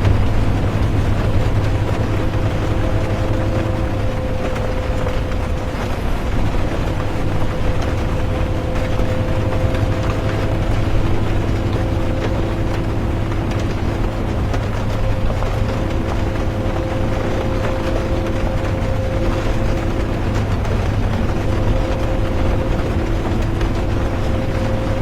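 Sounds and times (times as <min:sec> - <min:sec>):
bus engine drone: 0:00.0 - 0:25.0
faint whining tones: 0:00.0 - 0:25.0
rain ticking against bus: 0:00.0 - 0:25.0
road rumble: 0:00.0 - 0:25.0.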